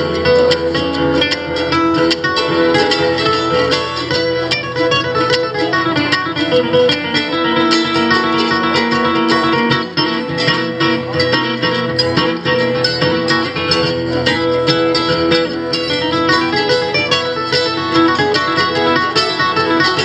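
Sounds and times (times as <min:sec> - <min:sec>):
acoustic guitar fast picking: 0:00.0 - 0:20.0.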